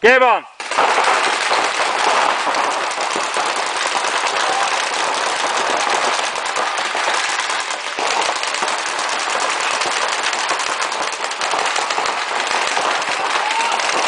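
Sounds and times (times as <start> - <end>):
paintball markers firing rapidly: 0.6 - 14.0.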